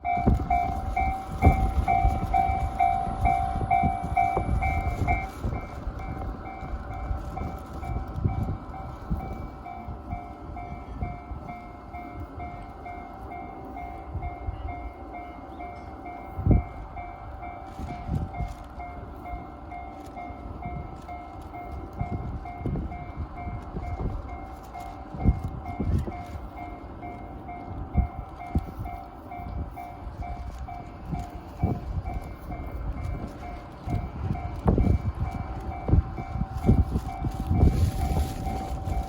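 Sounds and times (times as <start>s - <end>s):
level-crossing alarm dinging: 0.0s - 39.0s
train rumbling past: 0.0s - 39.0s.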